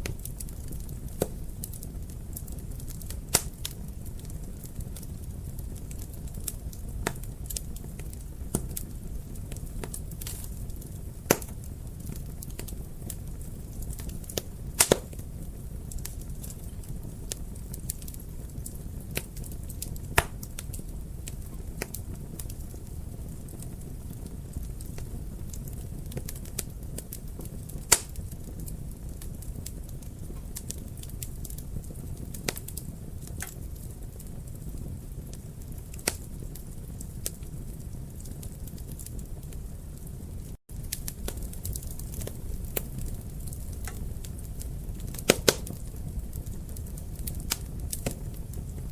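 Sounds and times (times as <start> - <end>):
fire crackling and popping: 0.0 - 48.9
flames rumbling: 0.0 - 48.9.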